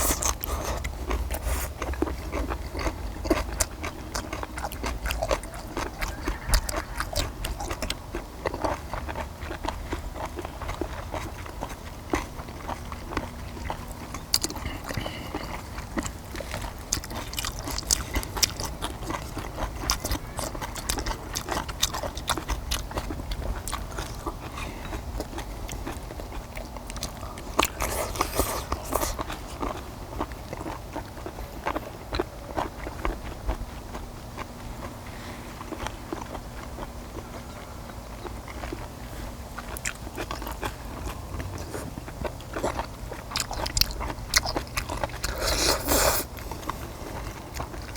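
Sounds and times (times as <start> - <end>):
people chewing food: 0.0 - 47.9
steady low hum: 0.0 - 47.9.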